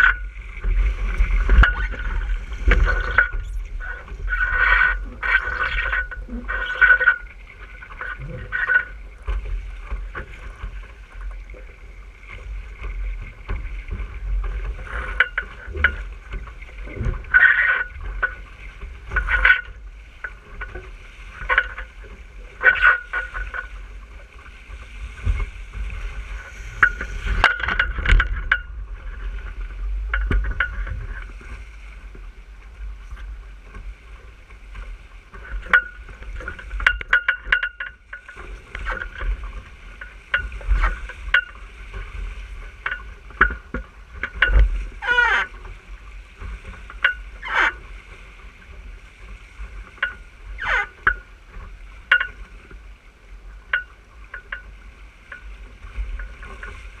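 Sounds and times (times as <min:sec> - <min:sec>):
water rushing along a hull: 0:00.0 - 0:57.0
wind rumbling on microphone: 0:00.0 - 0:57.0.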